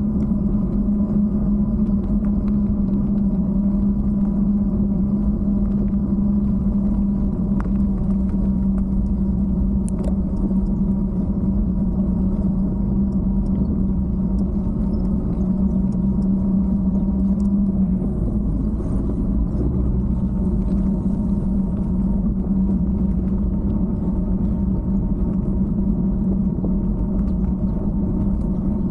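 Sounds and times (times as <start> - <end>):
bicycle tyres rolling on asphalt: 0.0 - 28.9
low hum: 0.0 - 28.9
wind buffeting camera: 0.0 - 28.9.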